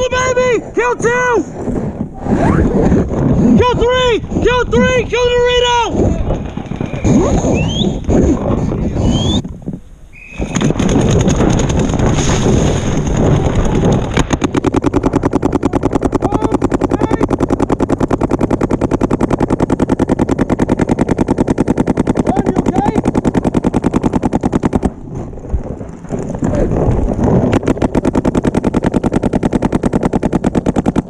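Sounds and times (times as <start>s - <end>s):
paintball marker rapid firing: 3.1s - 8.3s, 10.3s - 31.0s.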